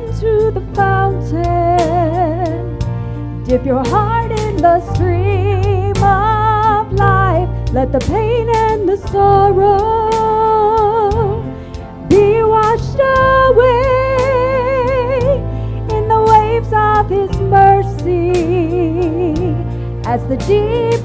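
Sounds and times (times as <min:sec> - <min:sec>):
bass guitar: 0:00.0 - 0:21.0.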